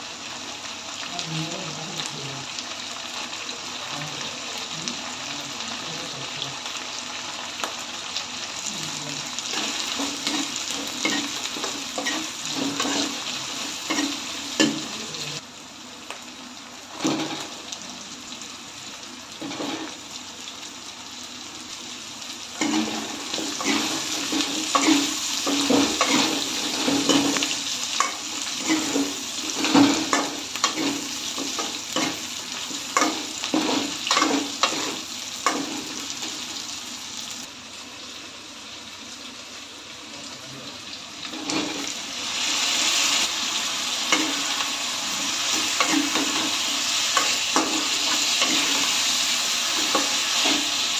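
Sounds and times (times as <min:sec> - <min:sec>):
vegetables sizzling in oil: 0:00.0 - 0:50.9.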